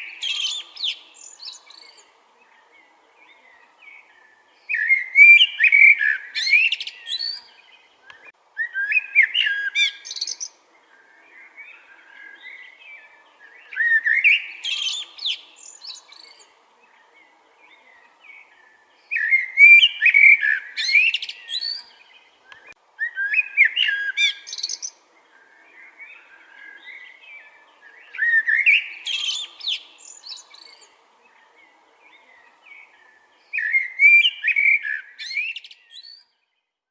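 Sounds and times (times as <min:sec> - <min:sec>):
blackbird singing: 0:00.0 - 0:36.7.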